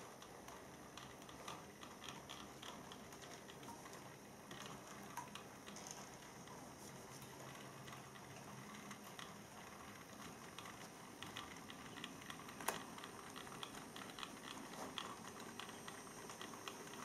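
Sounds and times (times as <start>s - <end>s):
model train clicking on track: 0.0s - 17.0s.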